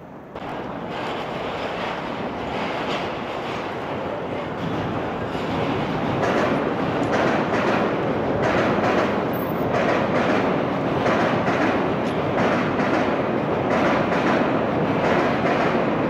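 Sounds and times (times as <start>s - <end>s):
train wheels rumbling on rails: 0.0s - 16.0s
train wheels clacking: 0.4s - 16.0s.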